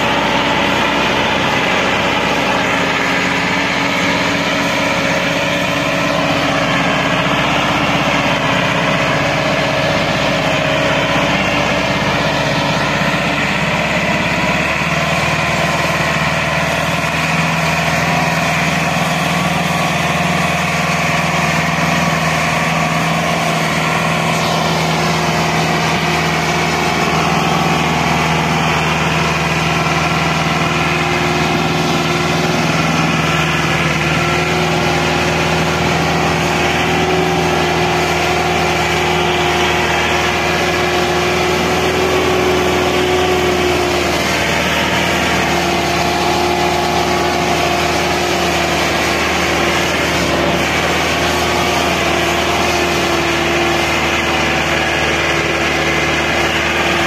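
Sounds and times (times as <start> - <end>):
tractor diesel engine straining: 0.0 - 57.0.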